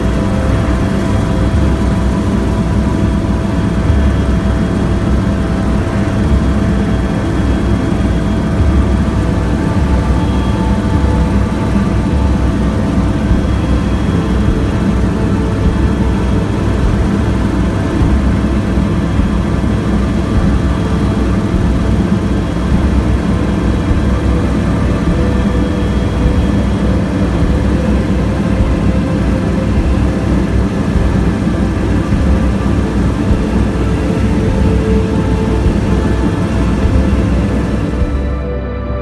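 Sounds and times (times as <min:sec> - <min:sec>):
faint whining tones: 0:00.0 - 0:39.0
helicopter engine and rotor rumble: 0:00.0 - 0:39.0.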